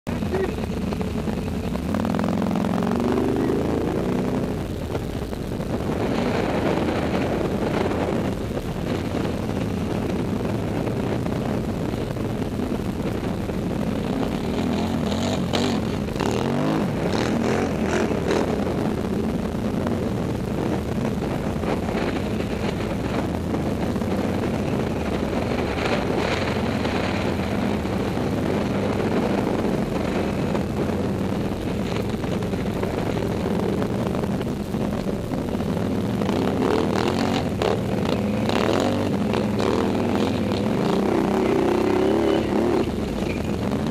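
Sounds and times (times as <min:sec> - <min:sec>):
quad bike engine revving: 0:00.1 - 0:04.8, 0:05.8 - 0:34.0, 0:35.6 - 0:43.9
quad bike engines running: 0:00.1 - 0:43.9.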